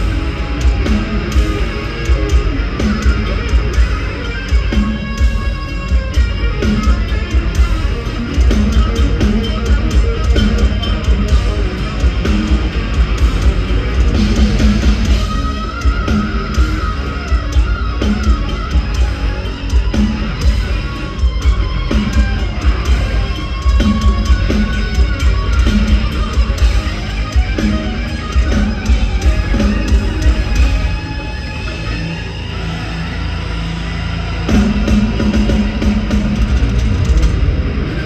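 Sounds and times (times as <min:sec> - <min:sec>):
bass and drums: 0:00.0 - 0:38.0
distorted electric guitar: 0:00.0 - 0:38.0.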